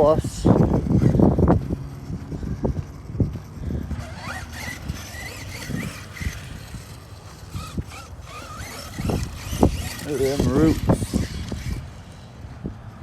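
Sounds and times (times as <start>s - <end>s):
electric motor whine: 0.0s - 12.3s.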